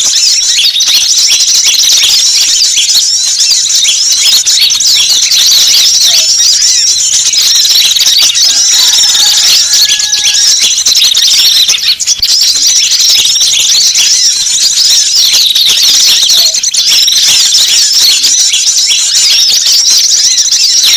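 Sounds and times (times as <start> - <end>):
many small birds chirping: 0.0 - 20.9.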